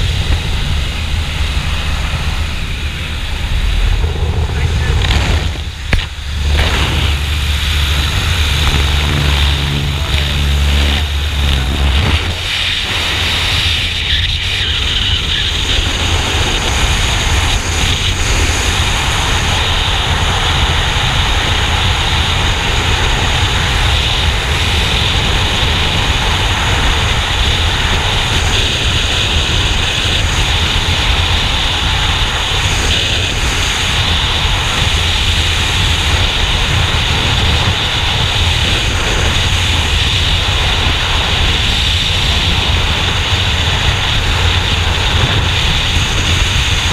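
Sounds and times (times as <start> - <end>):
propeller plane engine droning: 0.0 - 46.9
wind buffeting microphone: 0.0 - 46.9.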